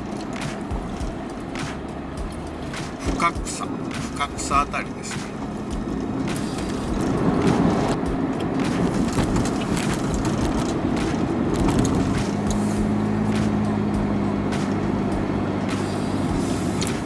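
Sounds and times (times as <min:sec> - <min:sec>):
car engine drone: 0:00.0 - 0:17.0
steady low hum: 0:00.0 - 0:17.0
tyre and road noise: 0:00.0 - 0:17.0.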